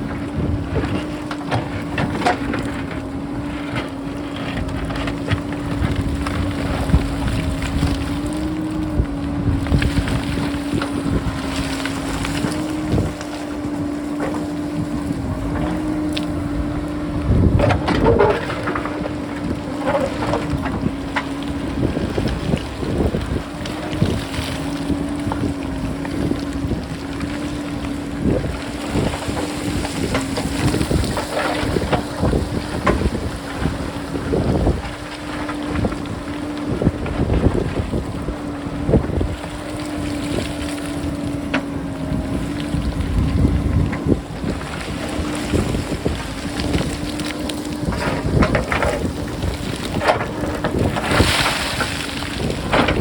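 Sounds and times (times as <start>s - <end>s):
backhoe diesel engine droning: 0.0s - 53.0s
wind buffeting microphone: 0.0s - 53.0s.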